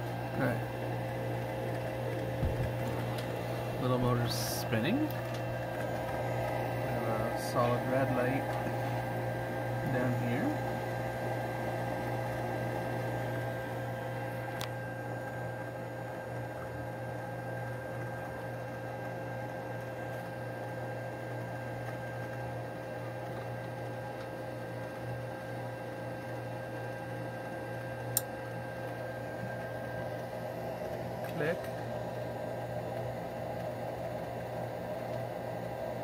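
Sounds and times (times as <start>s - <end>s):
furnace motor humming: 0.0s - 36.0s.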